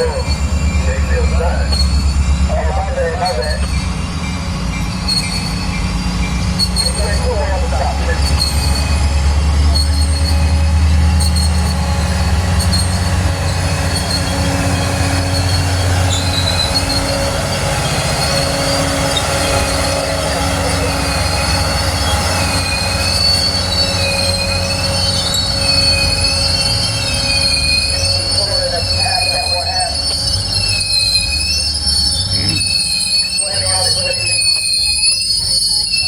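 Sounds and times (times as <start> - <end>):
train low rumble: 0.0 - 36.0
train wheels squealing: 0.0 - 36.0.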